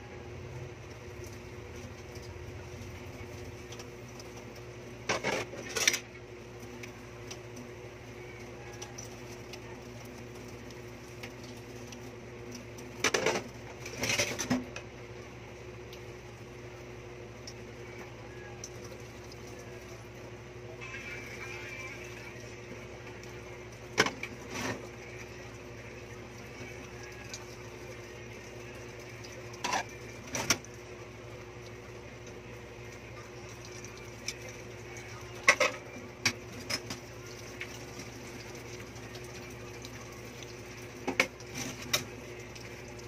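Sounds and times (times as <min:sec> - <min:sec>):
faint hum: 0:00.0 - 0:43.0.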